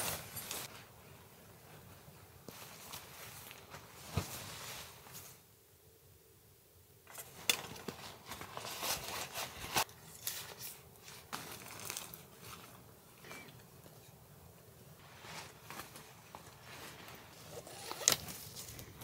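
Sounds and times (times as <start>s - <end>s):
camping gear rustling and crinkling: 0.0s - 5.5s, 7.0s - 19.0s.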